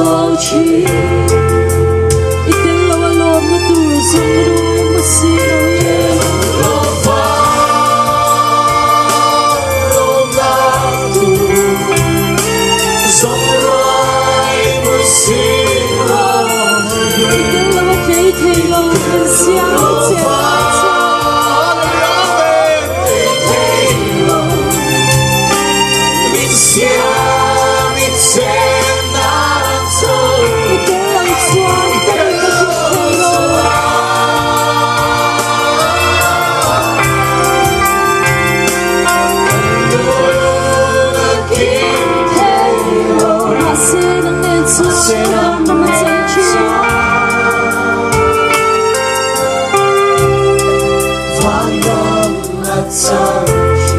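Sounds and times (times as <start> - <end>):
amplified band music: 0.0 - 53.9
group singing worship song: 0.0 - 53.9
low instrumental backing notes: 0.0 - 53.9.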